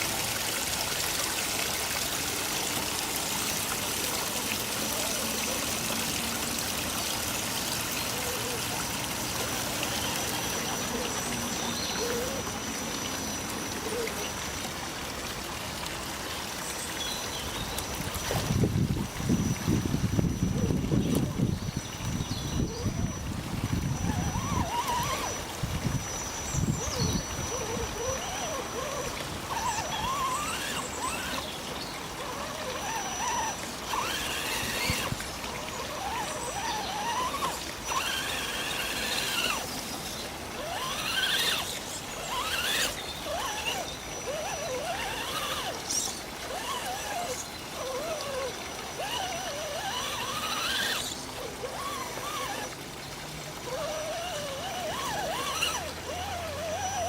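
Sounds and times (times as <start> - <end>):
toy car electric motor whining: 0.0 - 14.6, 17.7 - 52.8, 53.6 - 57.0
hissy trickling background: 0.0 - 57.0.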